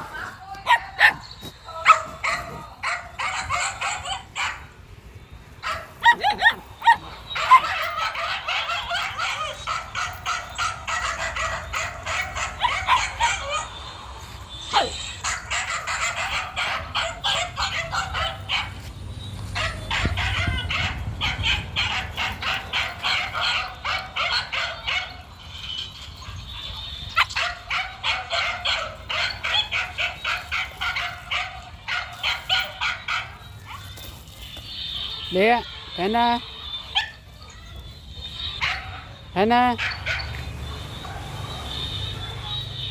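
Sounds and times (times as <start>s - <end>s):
dogs barking: 0.0s - 4.9s, 5.5s - 42.9s.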